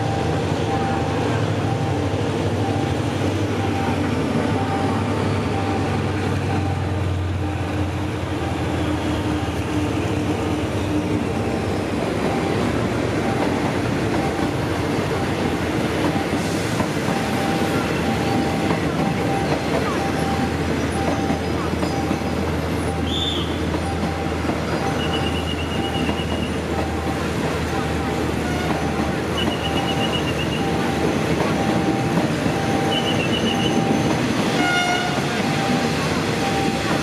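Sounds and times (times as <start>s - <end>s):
level crossing warning bell: 0.0s - 10.5s, 11.2s - 37.0s
train engine hum: 0.0s - 37.0s
train wheels clacking over rails: 0.2s - 37.0s.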